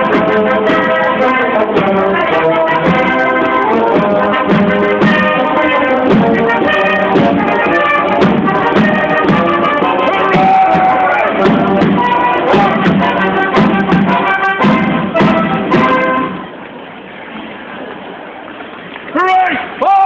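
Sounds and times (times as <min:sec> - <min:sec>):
brass band playing chords: 0:00.0 - 0:16.6.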